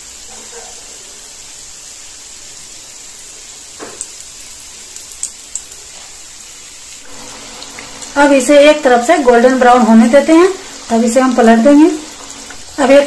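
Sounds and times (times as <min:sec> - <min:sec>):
cutlets sizzling in oil: 0:00.0 - 0:13.0.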